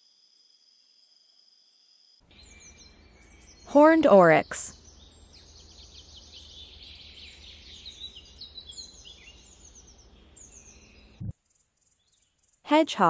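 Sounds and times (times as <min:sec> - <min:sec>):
small birds chirping: 0:02.2 - 0:13.0.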